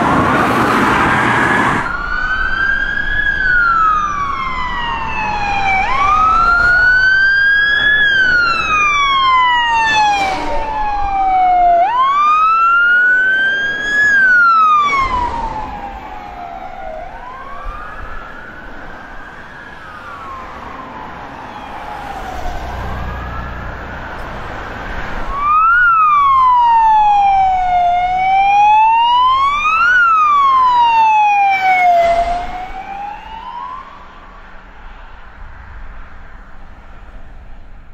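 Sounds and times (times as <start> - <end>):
fire engine sirens wailing: 0.0 - 37.2.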